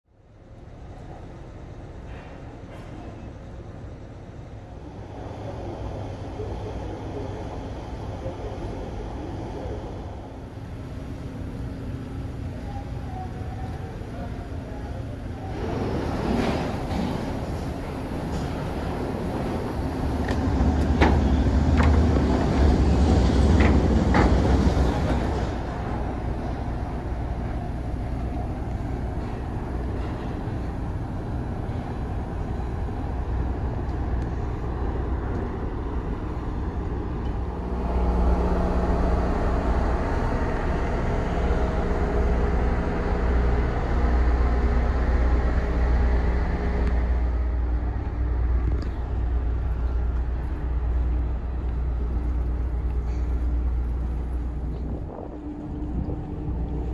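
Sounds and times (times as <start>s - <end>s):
even hum with low tone: 0.1s - 56.9s
ferry machinery rumble: 0.2s - 56.9s.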